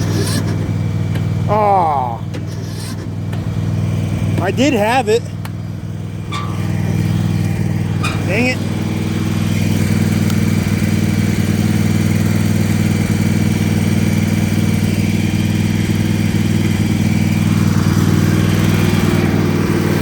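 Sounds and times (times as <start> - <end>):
lawn mower engine idling: 0.0 - 20.0.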